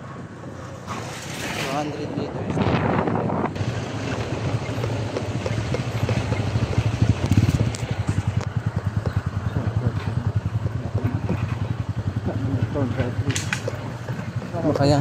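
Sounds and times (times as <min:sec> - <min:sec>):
motorcycle engine running: 0:02.6 - 0:15.0.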